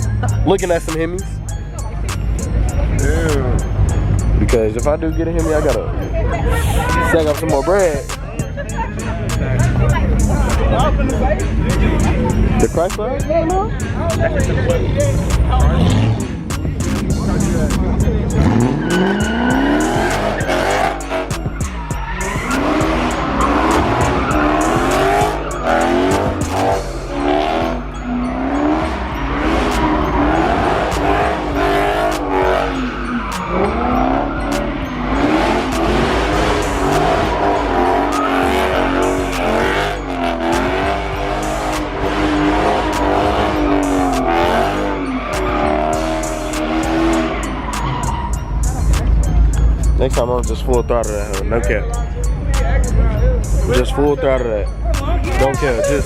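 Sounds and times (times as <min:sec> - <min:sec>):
car engine revving: 0:00.0 - 0:56.0
car tyres squealing: 0:00.0 - 0:56.0
music with heavy bass: 0:00.0 - 0:56.0.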